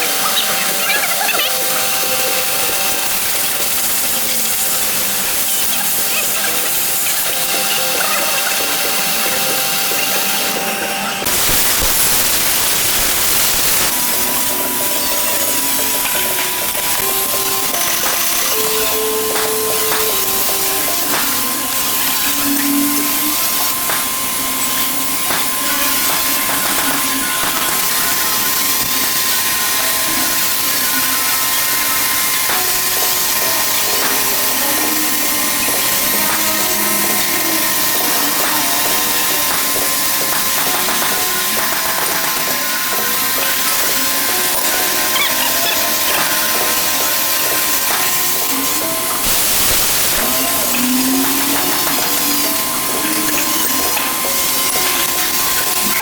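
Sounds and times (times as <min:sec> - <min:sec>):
power tool hissing on metal: 0:00.0 - 0:56.0
thin steady whine: 0:00.0 - 0:56.0.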